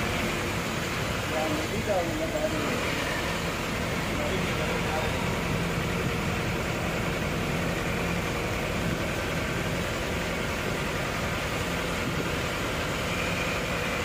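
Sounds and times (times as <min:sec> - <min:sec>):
engine and road noise in cab: 0:00.0 - 0:14.0.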